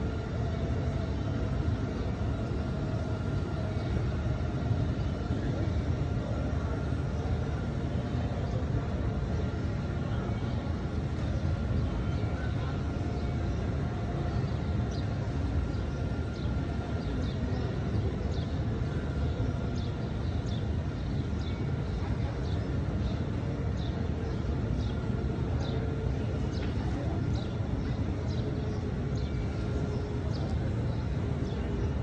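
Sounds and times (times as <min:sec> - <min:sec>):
low outdoor rumble: 0:00.0 - 0:32.0
small birds chirping: 0:00.0 - 0:32.0.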